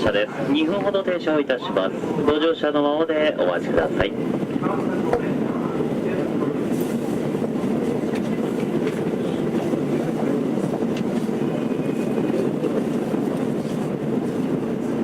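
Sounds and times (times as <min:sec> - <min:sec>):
subway car hum and rush: 0:00.0 - 0:15.0.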